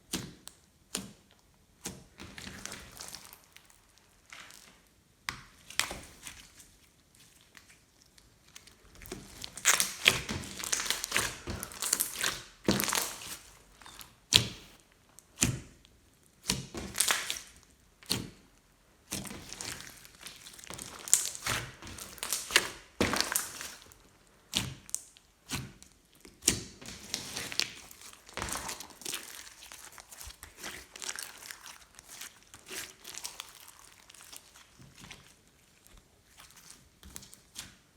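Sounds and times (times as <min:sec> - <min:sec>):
hands squishing slime: 0:00.0 - 0:37.9.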